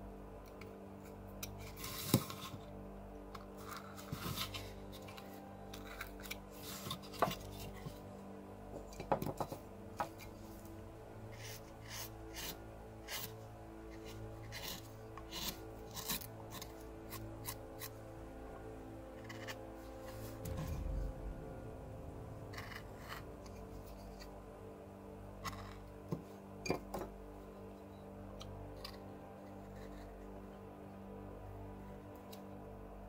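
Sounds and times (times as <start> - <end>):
soft background music: 0.0 - 33.0.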